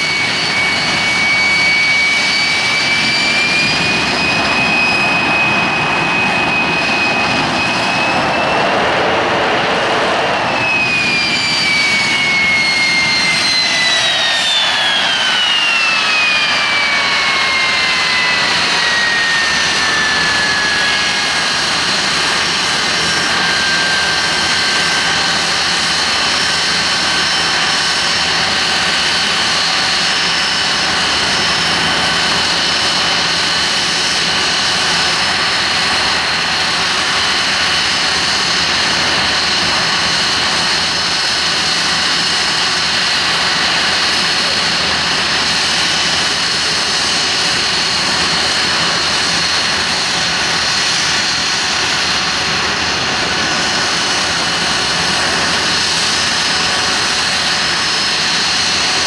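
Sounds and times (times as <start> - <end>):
jet roar with high whine: 0.0 - 59.0.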